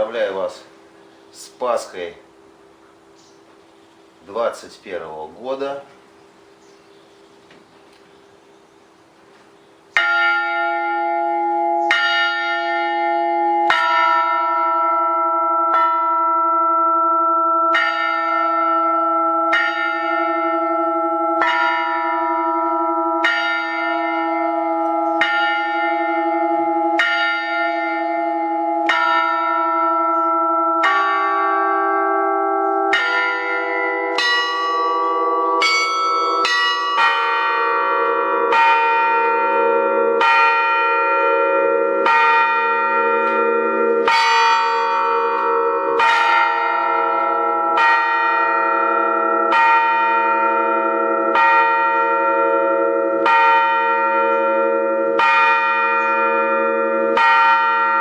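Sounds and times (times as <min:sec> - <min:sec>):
church bells ringing: 0:00.0 - 0:03.6, 0:04.2 - 0:06.6, 0:09.8 - 0:58.0.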